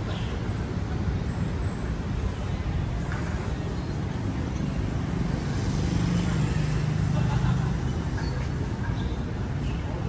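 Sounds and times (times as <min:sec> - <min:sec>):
city street rumble: 0:00.0 - 0:10.0
traffic: 0:00.0 - 0:10.0.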